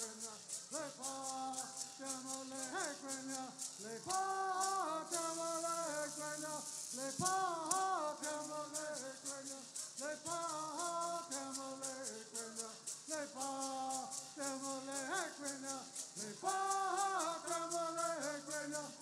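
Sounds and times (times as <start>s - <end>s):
gourd rattles shaking: 0.0s - 19.0s
men singing in unison: 0.0s - 19.0s.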